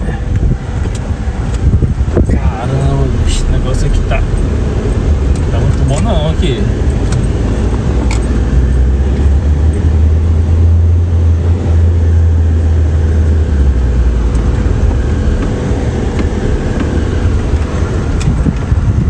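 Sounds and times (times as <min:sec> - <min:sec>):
car engine and tyre rumble: 0:00.0 - 0:19.0
deep low drone: 0:00.0 - 0:19.0.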